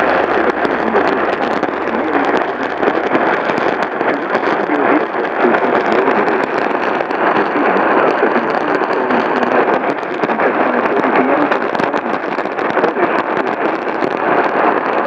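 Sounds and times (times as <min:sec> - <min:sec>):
radio static hiss and crackling: 0:00.0 - 0:15.0.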